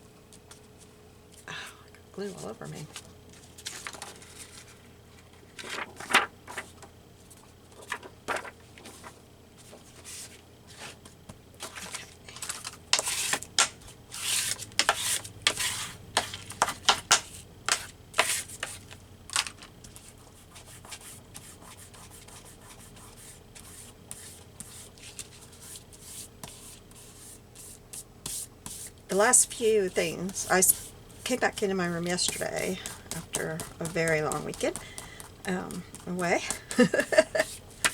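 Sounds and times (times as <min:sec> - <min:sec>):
paper rustling by hand: 0:02.9 - 0:11.0, 0:11.6 - 0:37.9.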